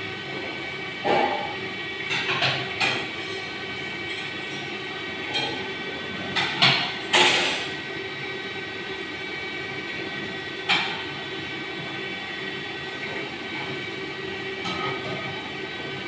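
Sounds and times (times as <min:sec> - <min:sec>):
gas burners roaring: 0:00.0 - 0:16.0.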